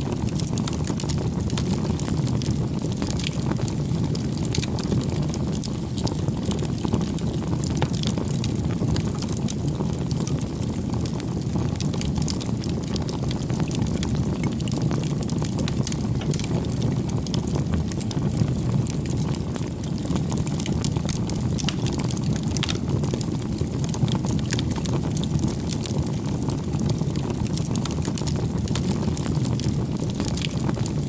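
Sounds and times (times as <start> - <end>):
fire crackling and popping: 0.0 - 31.0
fire flames rumbling: 0.0 - 31.0.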